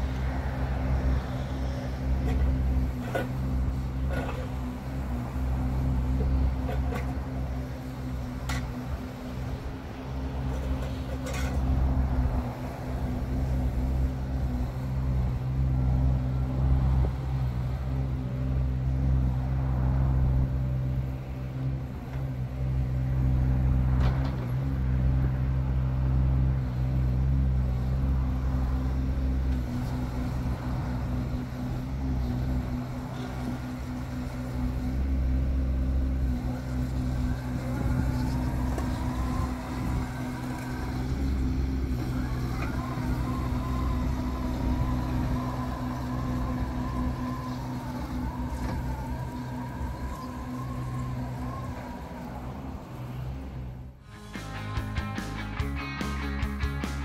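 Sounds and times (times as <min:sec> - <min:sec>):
diesel excavator engine running: 0:00.0 - 0:57.0.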